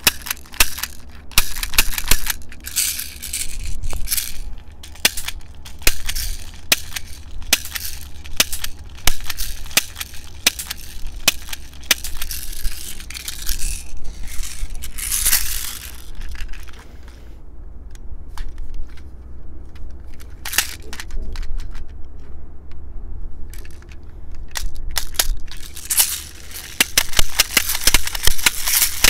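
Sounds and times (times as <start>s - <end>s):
rustling: 0.0s - 17.4s, 18.2s - 22.4s, 23.4s - 29.0s.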